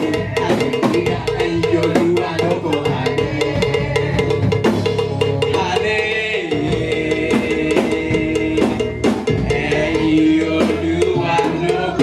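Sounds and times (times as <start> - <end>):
band instruments playing: 0.0 - 12.0
drum and wood-block rhythm: 0.0 - 12.0.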